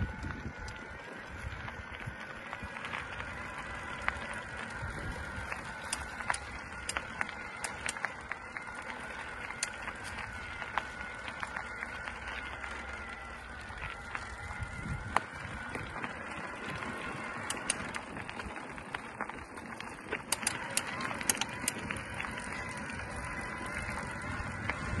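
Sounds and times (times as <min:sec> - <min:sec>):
bike clicks and rattles: 0:00.0 - 0:25.0
bike tyres rolling on trail: 0:00.0 - 0:25.0.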